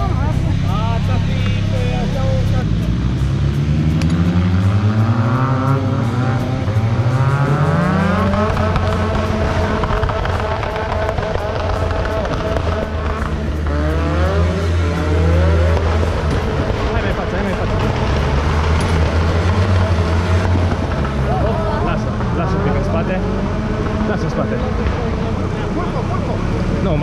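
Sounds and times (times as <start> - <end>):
engine revving: 0.0 - 27.0
steady low drone: 0.0 - 27.0.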